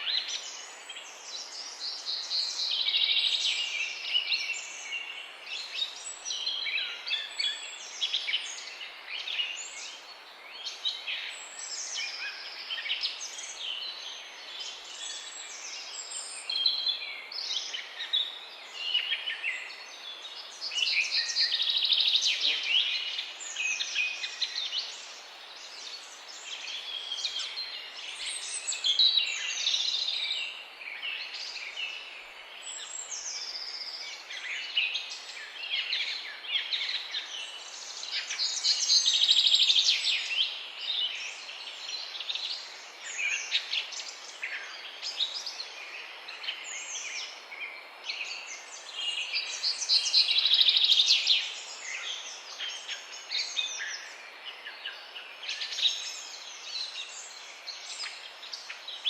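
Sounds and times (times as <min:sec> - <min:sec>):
background hiss: 0:00.0 - 0:59.0
songbirds singing: 0:00.0 - 0:59.0.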